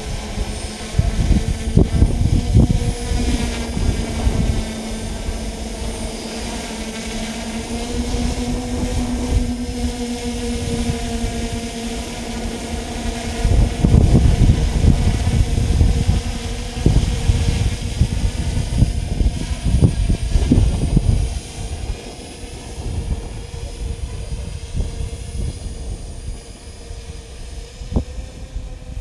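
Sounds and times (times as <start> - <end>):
drone motors humming: 0.0 - 29.0.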